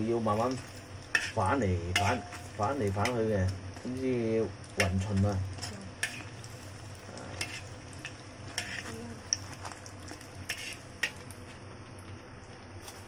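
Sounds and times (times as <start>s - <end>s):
spring rolls sizzling in oil: 0.0s - 13.0s.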